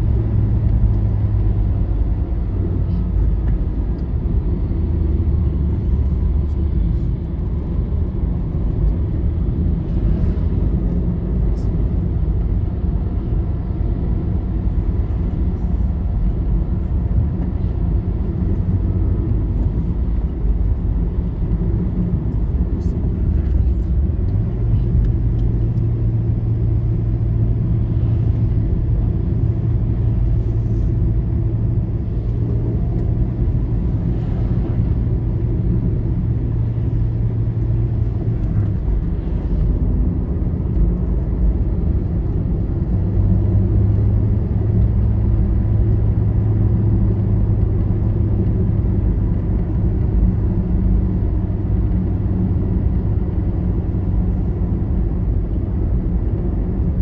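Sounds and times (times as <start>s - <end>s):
vehicle engine and tyre rumble: 0.0s - 57.0s.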